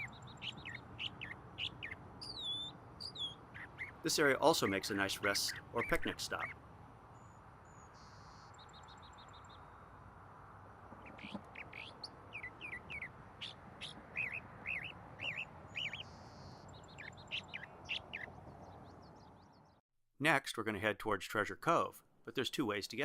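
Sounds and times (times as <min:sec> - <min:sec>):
bird chirps: 0:00.0 - 0:09.9, 0:10.9 - 0:19.8
bird trill: 0:00.0 - 0:09.9, 0:10.9 - 0:19.8.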